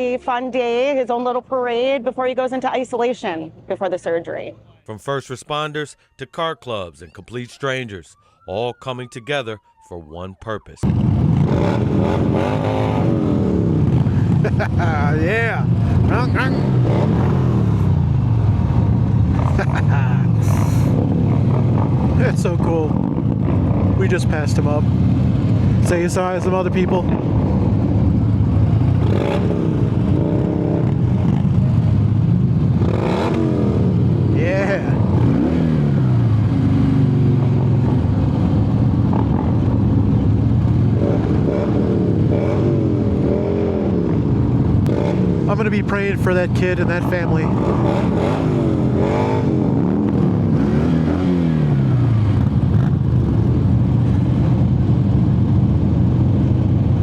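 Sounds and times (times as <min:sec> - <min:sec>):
motorcycle engine revving: 0:10.8 - 0:57.0.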